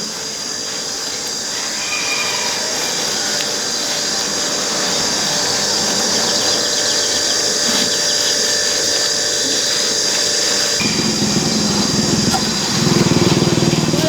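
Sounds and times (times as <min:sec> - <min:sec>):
power tool whining: 0:00.0 - 0:14.0.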